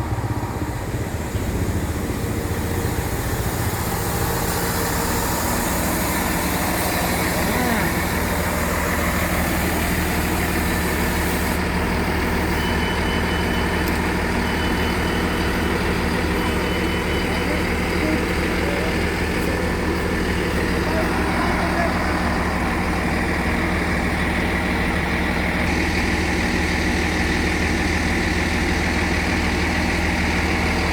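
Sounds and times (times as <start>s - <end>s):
diesel train engine running: 0.0s - 30.9s.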